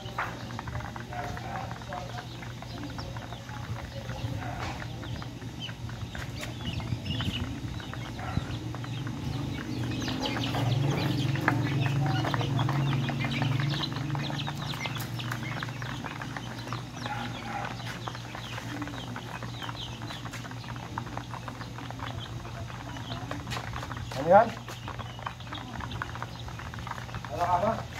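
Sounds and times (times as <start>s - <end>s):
chicks and ducklings peeping: 0.0s - 27.9s.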